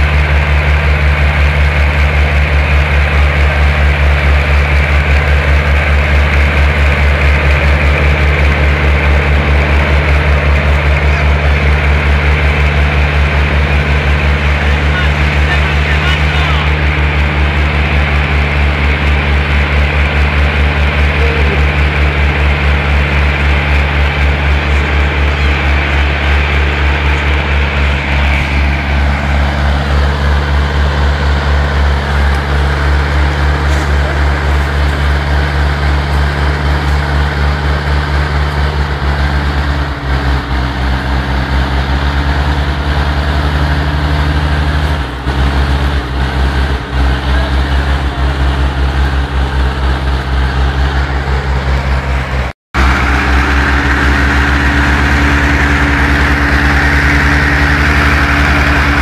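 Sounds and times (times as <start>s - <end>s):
small tractor engine running: 0.0s - 59.0s.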